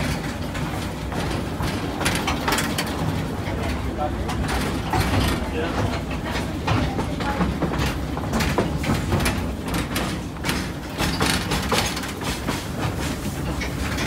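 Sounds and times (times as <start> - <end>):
railway carriage rumbling: 0.0 - 14.0
wheels clicking over rail joints: 0.0 - 14.0.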